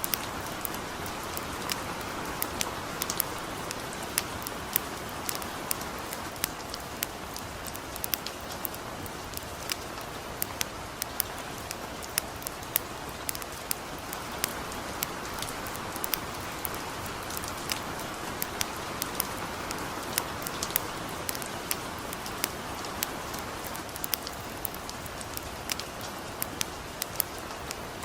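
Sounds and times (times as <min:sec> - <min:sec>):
campfire crackling: 0:00.0 - 0:28.0
gentle rain: 0:00.0 - 0:28.0.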